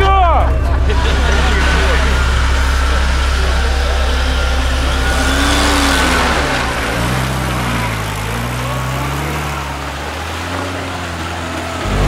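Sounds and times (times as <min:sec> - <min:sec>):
broad rushing noise: 0:00.0 - 0:12.0
engine revving under load: 0:00.0 - 0:12.0.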